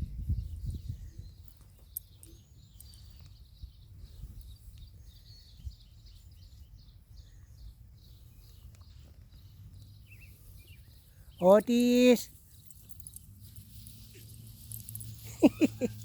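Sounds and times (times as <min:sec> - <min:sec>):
faint high chirping: 0:00.4 - 0:16.0.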